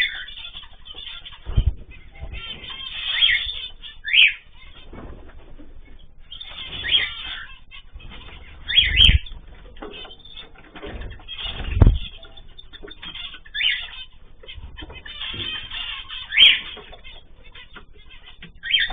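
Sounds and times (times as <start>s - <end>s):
cage birds chirping: 0.0s - 18.9s
wings flapping: 0.0s - 18.9s.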